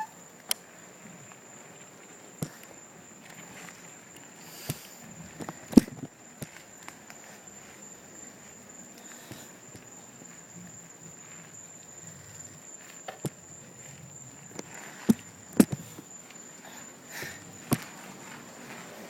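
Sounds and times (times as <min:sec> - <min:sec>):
high-pitched insect trill: 0:00.0 - 0:19.0.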